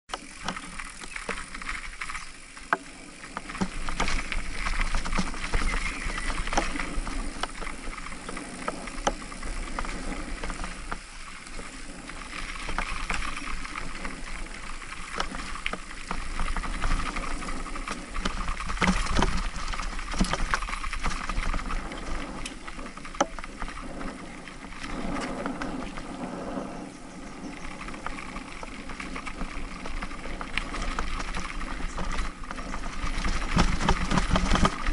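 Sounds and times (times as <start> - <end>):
bike rattling over bumps: 0.1 - 34.9
bike tyres on dirt and gravel: 0.1 - 34.9.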